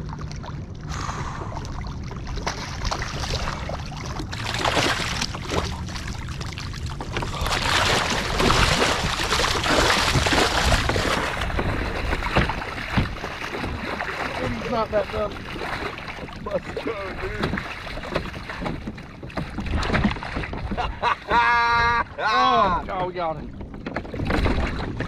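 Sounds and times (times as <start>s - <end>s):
water splashing against kayak: 0.0s - 25.0s
wind rumbling on microphone: 0.0s - 25.0s.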